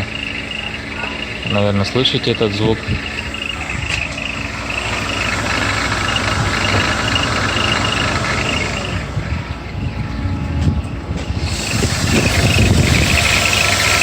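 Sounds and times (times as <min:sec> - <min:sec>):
rapid belt tensioner chirping: 0:00.0 - 0:09.0, 0:11.4 - 0:14.0
car engine idling: 0:00.0 - 0:14.0.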